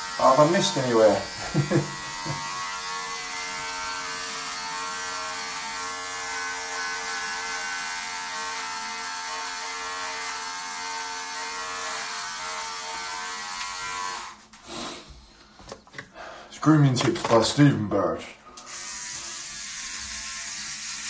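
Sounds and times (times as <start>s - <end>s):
electric shaver buzzing: 0.0s - 14.5s, 18.5s - 21.0s.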